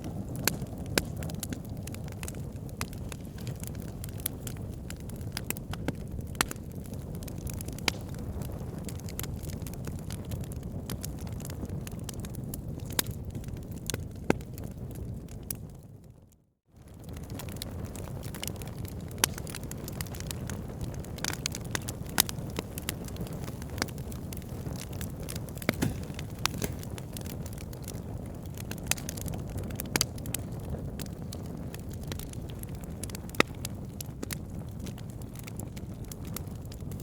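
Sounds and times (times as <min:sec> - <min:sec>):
wood fire rumbling: 0:00.0 - 0:16.0, 0:16.8 - 0:37.0
burning logs crackling and popping: 0:00.0 - 0:16.2, 0:16.8 - 0:37.0.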